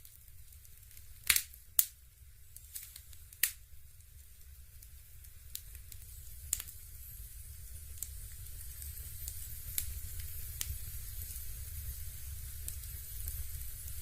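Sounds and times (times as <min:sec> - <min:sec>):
faint hiss: 0:00.0 - 0:14.0
fireplace crackling: 0:00.0 - 0:14.0
low steady hum: 0:00.0 - 0:14.0.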